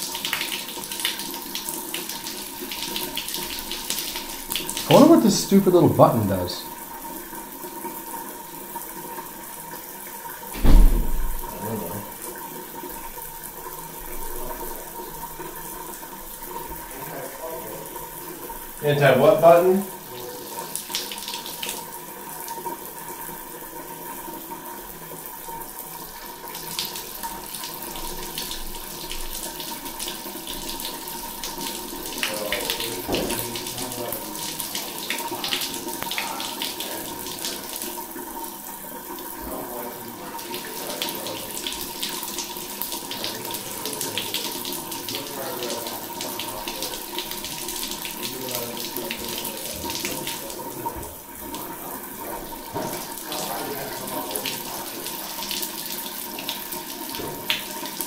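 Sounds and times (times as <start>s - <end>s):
shower water splashing on tiles: 0.0s - 58.0s.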